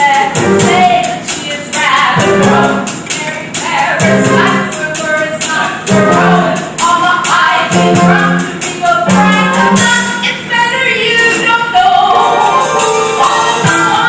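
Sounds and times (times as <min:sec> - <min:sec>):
crisp percussion beat: 0:00.0 - 0:10.3, 0:12.4 - 0:14.0
band accompaniment: 0:00.0 - 0:10.5, 0:11.2 - 0:14.0
voices singing a show tune: 0:00.0 - 0:14.0.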